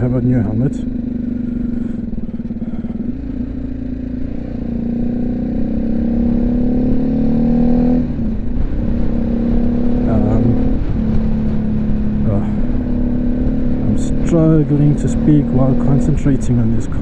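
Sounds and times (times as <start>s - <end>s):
motorcycle engine accelerating: 0.0s - 17.0s
wind buffeting microphone: 0.9s - 17.0s.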